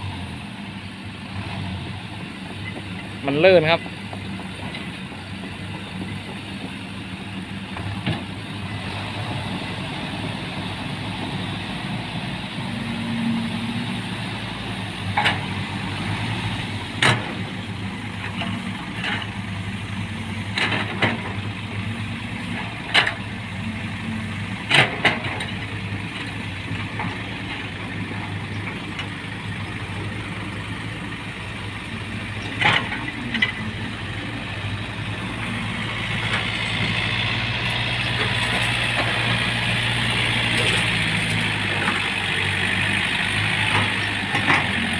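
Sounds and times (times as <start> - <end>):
heavy vehicle engine running: 0.0 - 44.9.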